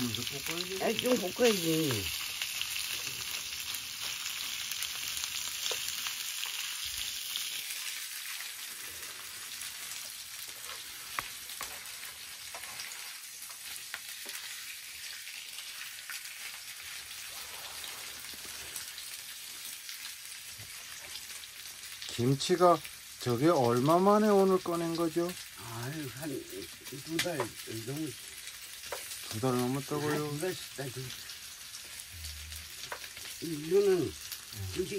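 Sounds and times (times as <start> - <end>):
meat sizzling in a frying pan: 0.0 - 34.9.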